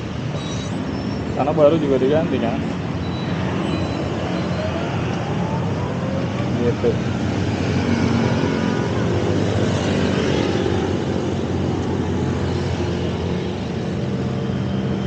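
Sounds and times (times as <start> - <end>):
car and motorcycle engines: 0.0 - 15.0.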